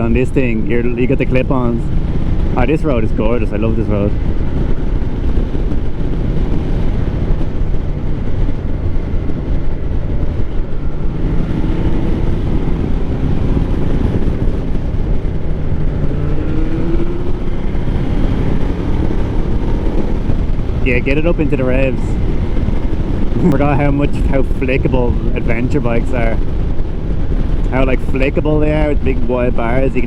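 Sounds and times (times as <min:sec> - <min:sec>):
motorcycle engine accelerating: 0:00.0 - 0:29.8
road and wind noise: 0:00.0 - 0:30.0.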